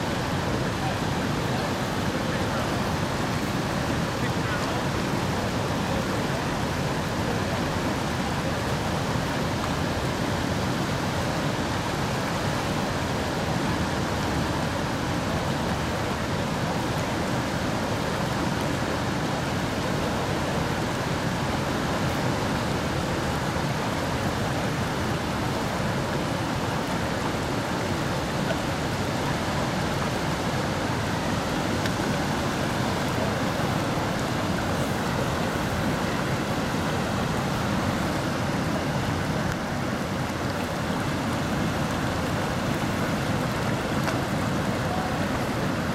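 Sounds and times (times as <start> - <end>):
river water rushing: 0.0 - 45.9.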